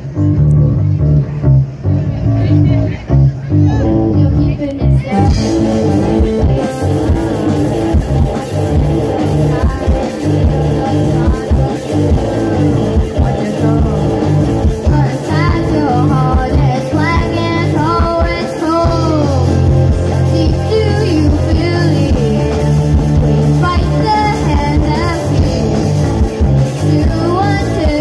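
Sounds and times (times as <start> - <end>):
live rock band playing: 0.0 - 28.0
boy singing lead vocal: 3.7 - 28.0.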